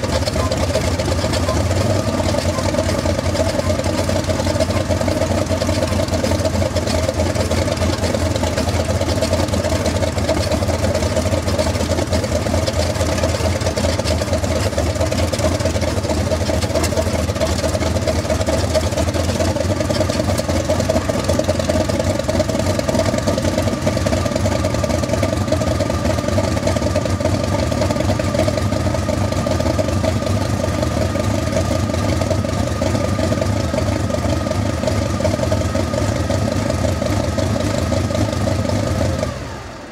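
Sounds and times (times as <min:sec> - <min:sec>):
helicopter radial engine running: 0:00.0 - 0:39.8.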